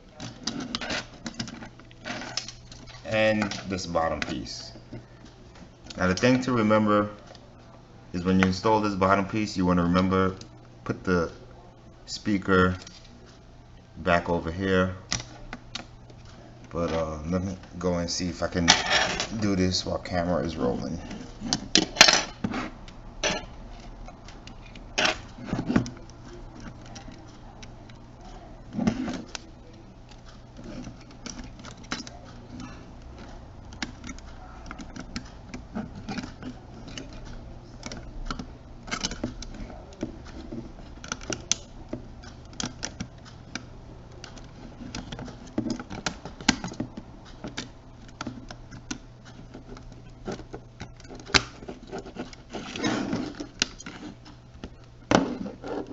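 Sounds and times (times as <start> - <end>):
steady low hum: 0.0 - 55.9
plastic parts clicking and rattling: 0.1 - 6.5, 15.1 - 55.9.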